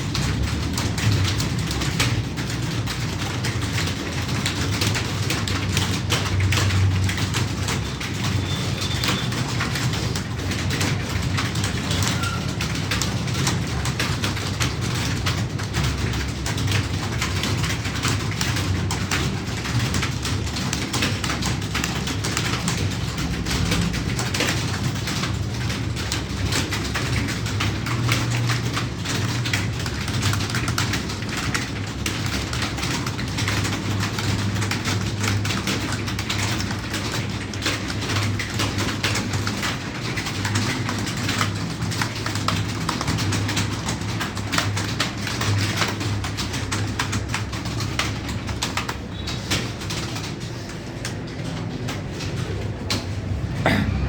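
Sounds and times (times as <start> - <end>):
many keyboards typing: 0.0 - 54.0.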